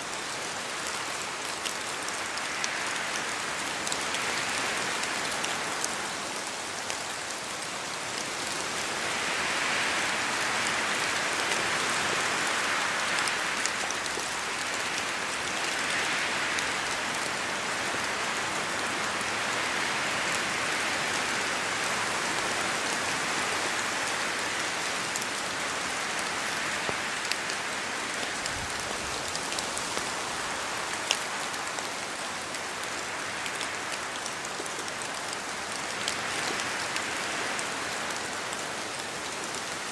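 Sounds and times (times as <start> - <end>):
rain on foliage: 0.0 - 39.9
wind gusts through trees: 0.0 - 39.9.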